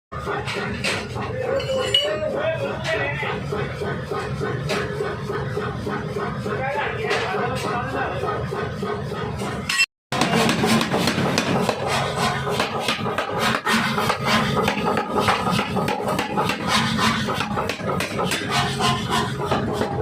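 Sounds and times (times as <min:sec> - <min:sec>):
forging hammer striking metal: 0:00.2 - 0:06.0, 0:09.6 - 0:20.0.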